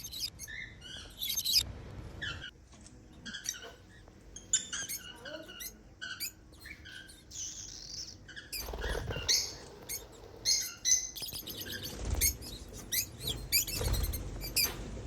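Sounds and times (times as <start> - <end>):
birds chirping and squeaking: 0.0 - 15.0.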